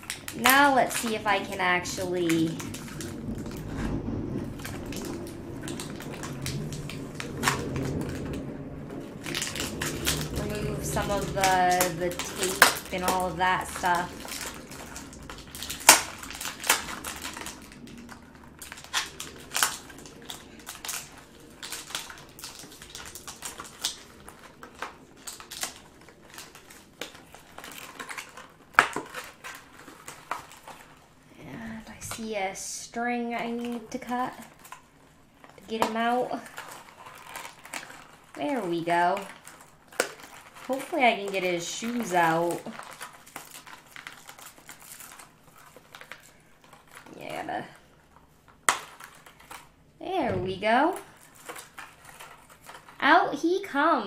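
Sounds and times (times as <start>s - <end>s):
tape peeling: 0.0s - 32.2s, 33.6s - 47.2s, 47.9s - 49.8s, 51.0s - 53.0s
plastic crack: 0.0s - 54.0s
plastic packaging crinkling: 0.0s - 54.0s.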